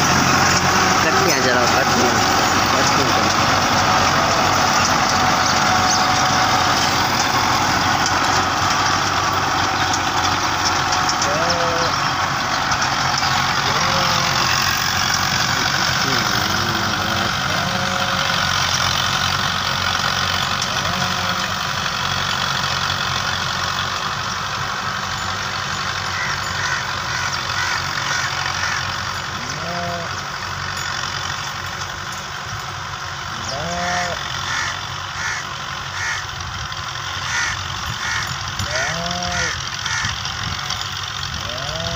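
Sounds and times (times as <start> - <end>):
tractor diesel engines under load: 0.0 - 41.9.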